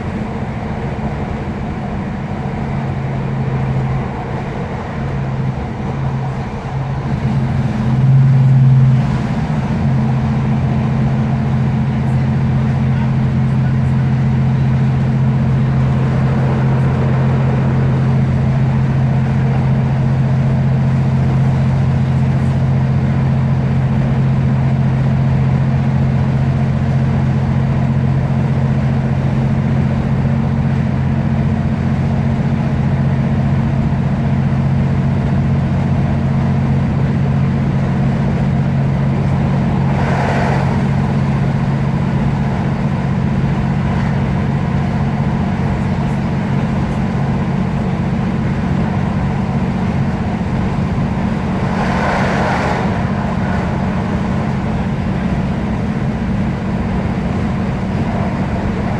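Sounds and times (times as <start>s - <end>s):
train diesel engine drone: 0.0s - 58.9s
wheels rumbling on track: 0.0s - 58.9s.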